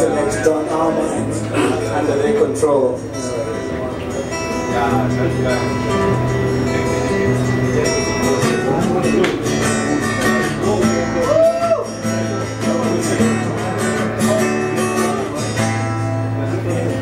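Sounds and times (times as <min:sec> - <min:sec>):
acoustic guitar strummed and picked: 0:00.0 - 0:17.0.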